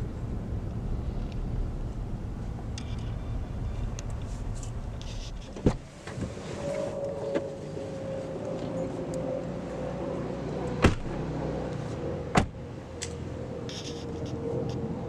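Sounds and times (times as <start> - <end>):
car cabin rumble and drone: 0.0 - 15.0.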